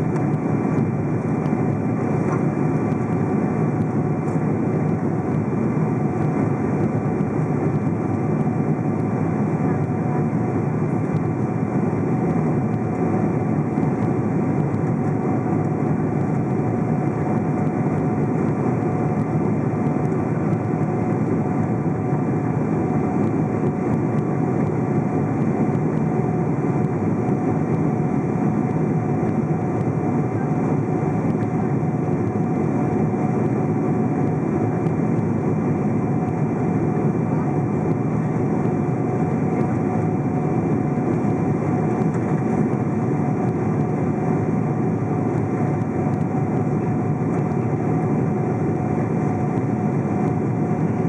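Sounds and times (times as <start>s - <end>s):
jet engine drone: 0.0s - 51.0s.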